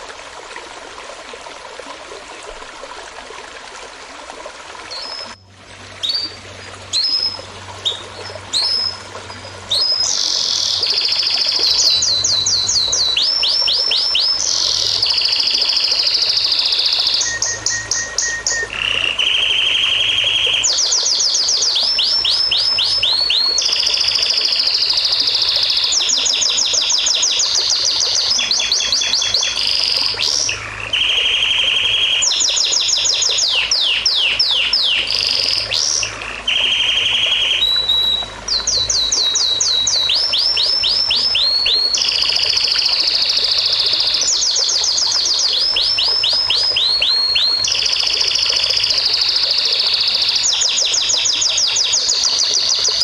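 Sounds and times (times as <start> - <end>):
songbird singing: 4.9 - 53.0.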